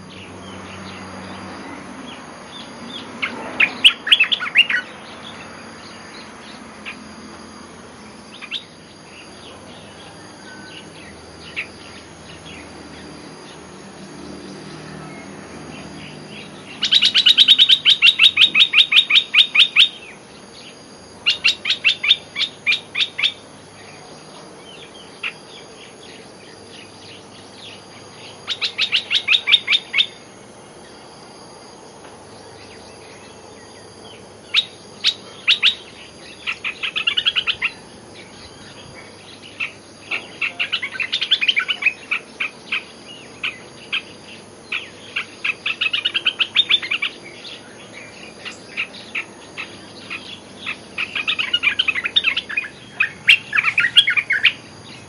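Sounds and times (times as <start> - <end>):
bird chattering song: 0.0 - 7.1, 8.3 - 13.7, 14.4 - 30.2, 32.5 - 55.0.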